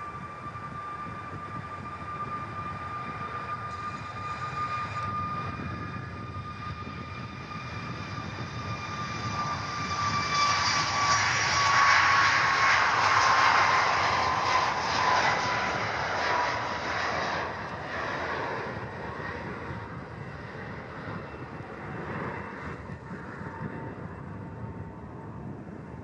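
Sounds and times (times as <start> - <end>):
jet engine whine: 0.0 - 26.0
wind buffeting microphone: 0.0 - 26.0.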